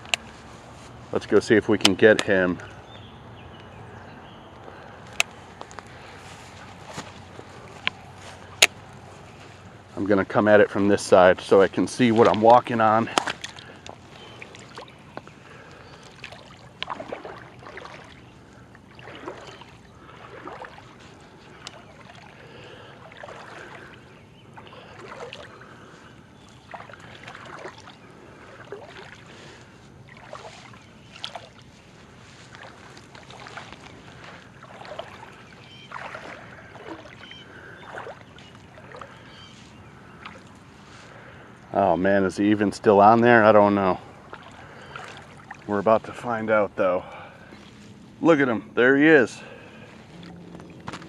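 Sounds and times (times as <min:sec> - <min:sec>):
wading through weedy water: 0:00.0 - 0:51.0.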